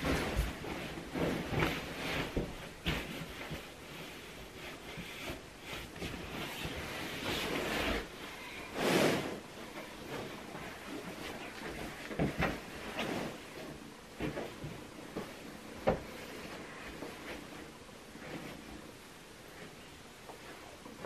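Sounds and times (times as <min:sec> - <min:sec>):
bedding rustling and swishing: 0:00.0 - 0:21.0.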